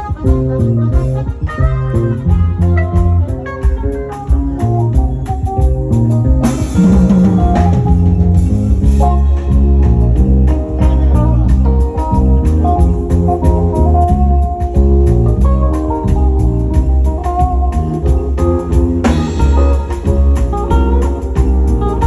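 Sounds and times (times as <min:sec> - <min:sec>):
bass line: 0:00.0 - 0:22.0
melodic notes: 0:00.0 - 0:22.0
steady drum beat: 0:00.0 - 0:22.0.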